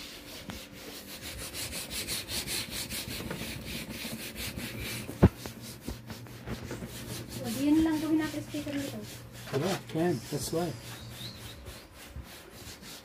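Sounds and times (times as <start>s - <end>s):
hand rubbing tabletop: 0.0s - 13.0s.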